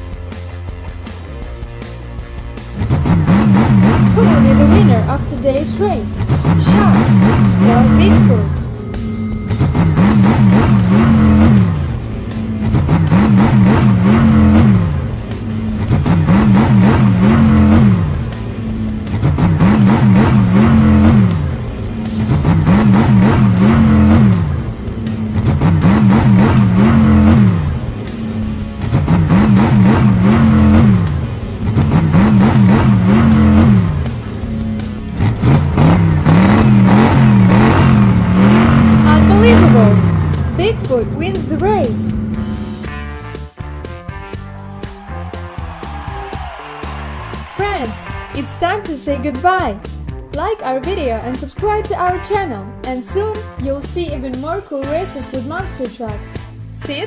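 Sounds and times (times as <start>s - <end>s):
cartoon truck engine revving: 0.0s - 50.0s
background music: 0.0s - 57.0s.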